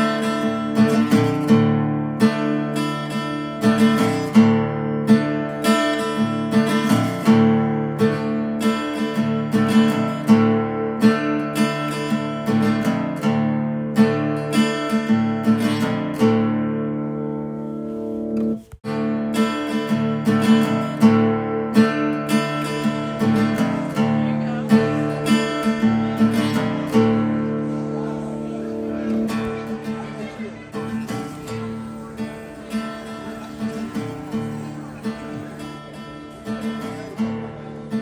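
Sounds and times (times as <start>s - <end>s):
strummed acoustic guitar: 0.0s - 38.0s.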